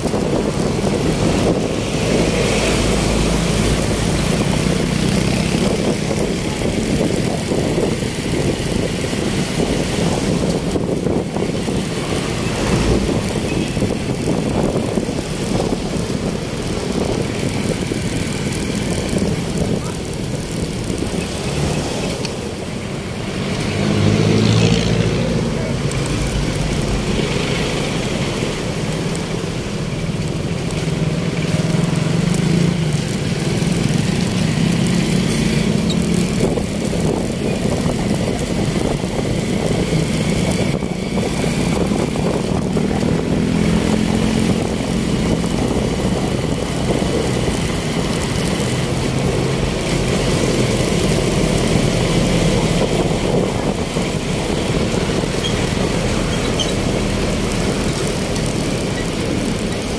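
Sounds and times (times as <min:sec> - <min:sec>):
vehicle engines running: 0:00.0 - 0:59.9.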